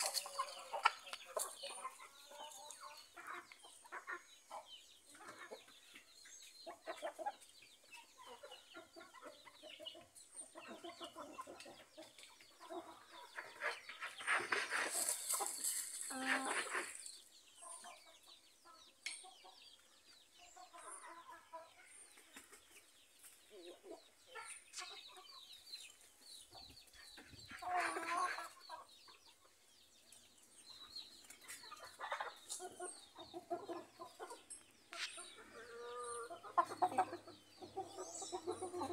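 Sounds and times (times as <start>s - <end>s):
chicken calls: 0.0s - 18.8s, 19.4s - 29.6s, 30.8s - 38.9s
chickens clucking: 0.0s - 38.9s.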